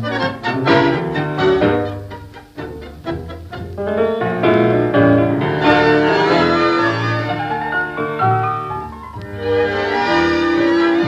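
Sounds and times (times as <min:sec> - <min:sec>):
tango orchestra playing: 0:00.0 - 0:11.0.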